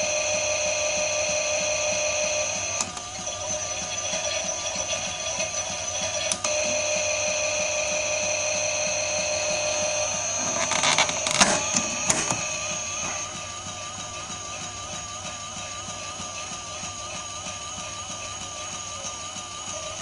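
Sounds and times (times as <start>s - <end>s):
small electric motor whining: 0.0s - 20.0s.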